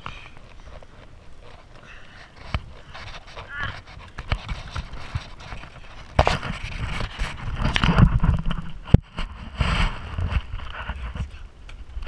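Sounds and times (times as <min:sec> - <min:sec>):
bike rattling and scraping: 0:00.0 - 0:12.0
wind rumble on microphone: 0:00.0 - 0:12.0.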